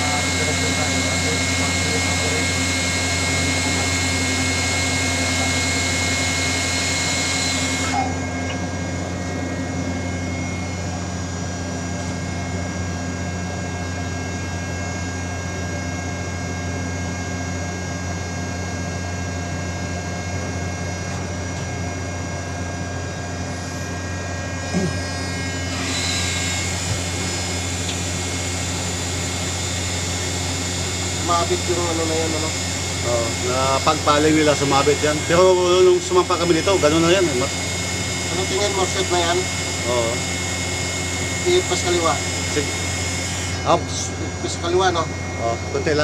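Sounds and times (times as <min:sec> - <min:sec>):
crane machinery humming: 0:00.0 - 0:46.0
high machine whine: 0:00.0 - 0:46.0.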